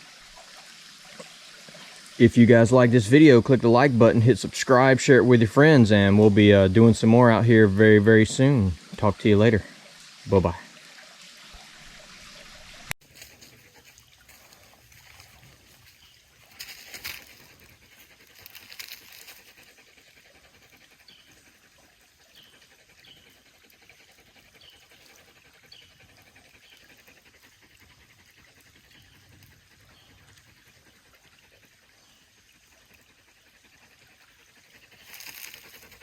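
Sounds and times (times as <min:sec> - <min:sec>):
water trickling: 0:00.0 - 0:36.0.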